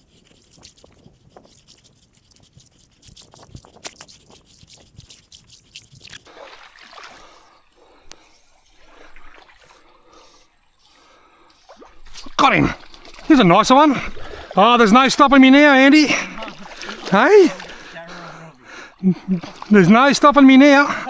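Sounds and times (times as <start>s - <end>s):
footsteps in shallow stream: 0.0s - 21.0s
water trickling: 0.2s - 21.0s.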